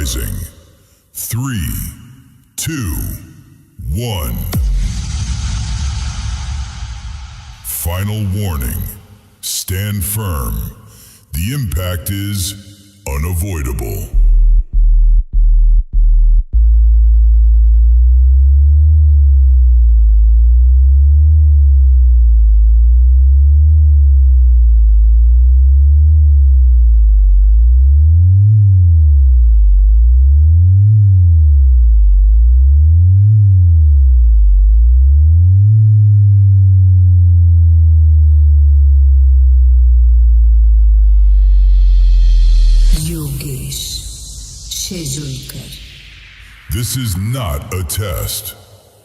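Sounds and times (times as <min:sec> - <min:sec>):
sweeping sub-bass sine tones: 0:00.0 - 0:03.8, 0:04.4 - 0:09.4, 0:12.5 - 0:49.0.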